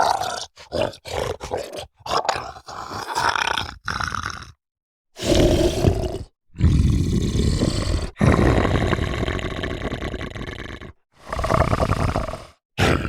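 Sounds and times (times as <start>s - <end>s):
monster roars: 0.0s - 4.6s, 5.2s - 13.0s.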